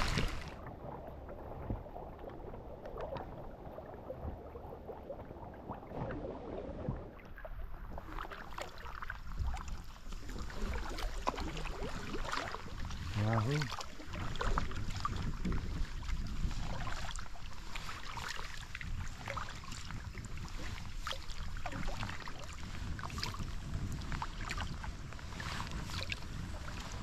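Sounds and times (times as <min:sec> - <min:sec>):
water splashing and dripping: 0:00.0 - 0:23.4.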